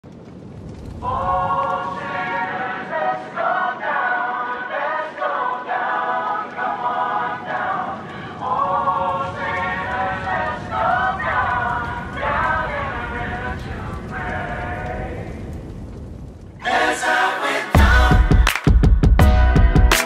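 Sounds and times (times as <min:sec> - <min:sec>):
a cappella choir singing: 0:01.0 - 0:15.3, 0:16.6 - 0:20.0.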